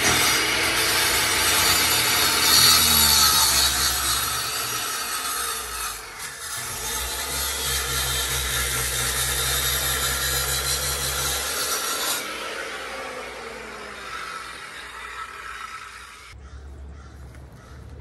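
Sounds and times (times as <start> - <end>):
power saw cutting wall: 0.0 - 16.4.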